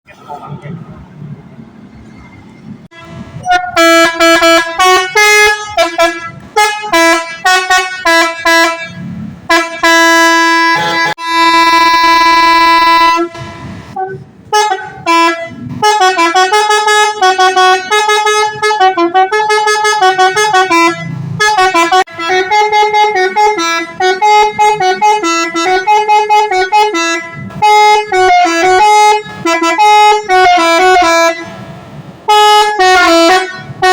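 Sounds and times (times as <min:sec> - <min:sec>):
multi-tone horn playing notes: 0:02.9 - 0:31.6, 0:32.3 - 0:33.9.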